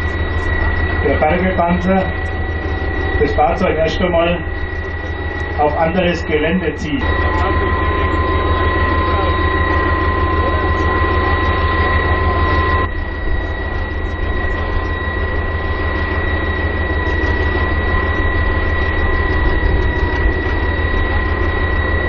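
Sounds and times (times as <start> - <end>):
tracked vehicle engines idling: 0.0 - 22.0.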